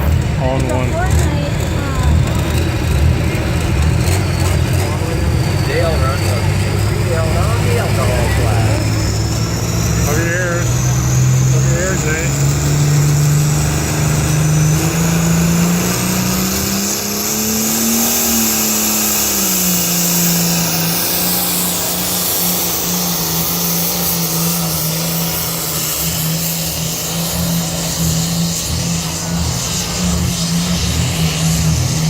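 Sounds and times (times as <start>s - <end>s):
high whine: 0.0s - 32.0s
tractor engine under load: 0.0s - 32.0s.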